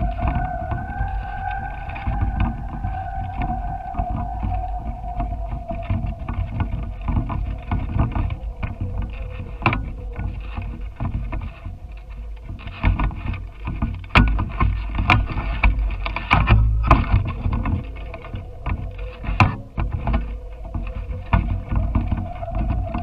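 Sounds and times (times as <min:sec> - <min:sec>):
faint steady hum: 0:00.0 - 0:23.0
wind buffeting microphone: 0:00.0 - 0:23.0.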